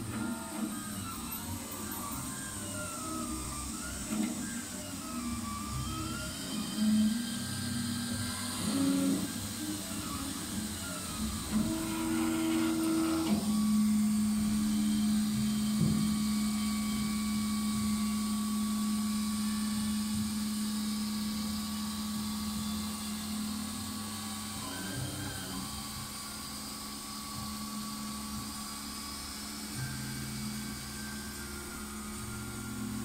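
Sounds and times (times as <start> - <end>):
cooling fan whirring: 0.0 - 33.0
stepper motors whining: 0.0 - 33.0.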